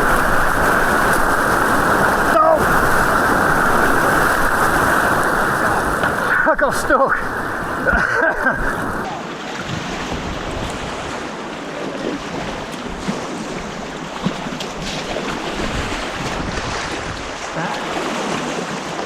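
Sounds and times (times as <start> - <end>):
small water splashes: 0.0 - 19.0
white water rushing: 0.0 - 19.0.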